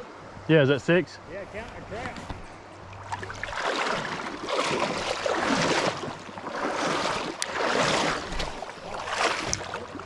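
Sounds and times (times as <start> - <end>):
water sloshing around legs: 0.8 - 10.0.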